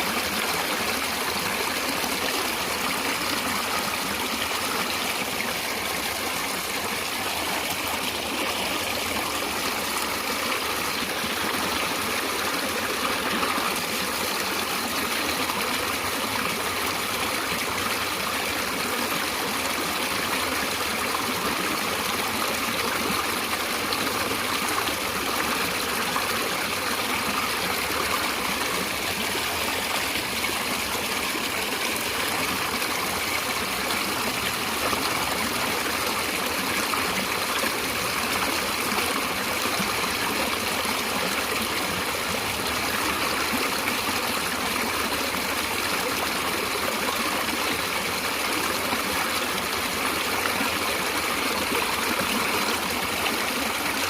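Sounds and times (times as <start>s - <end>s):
stream of running water: 0.0s - 54.0s.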